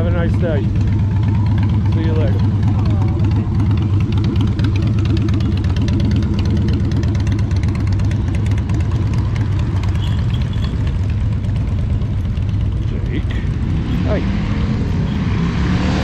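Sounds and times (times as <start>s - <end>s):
motorcycle engine pulsing: 0.0s - 16.0s.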